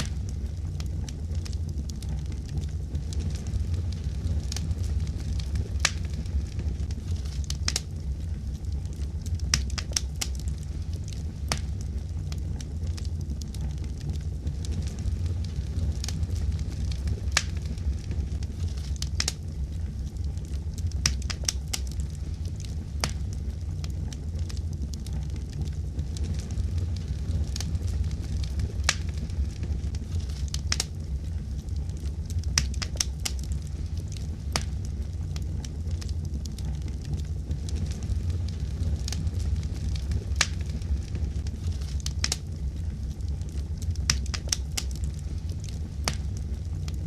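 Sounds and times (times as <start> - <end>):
low rumble of flames: 0.0 - 47.0
wood fire crackling: 0.0 - 47.0.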